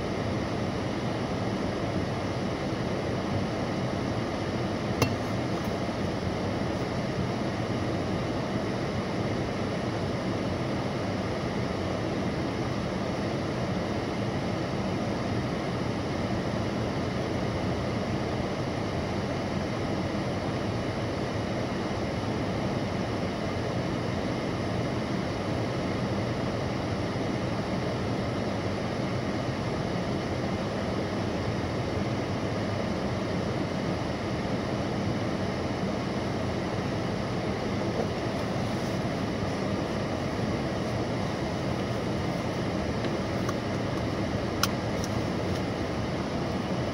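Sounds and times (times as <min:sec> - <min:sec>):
car air conditioning blowing: 0:00.0 - 0:46.9.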